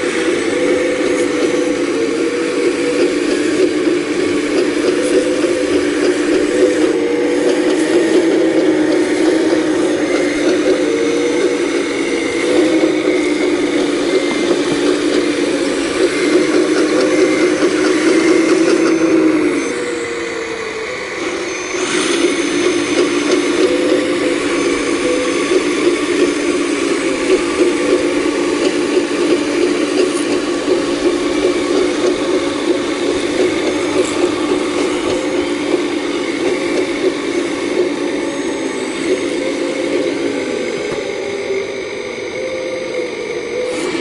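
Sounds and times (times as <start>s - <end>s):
excavator engine and hydraulics: 0.0s - 44.0s.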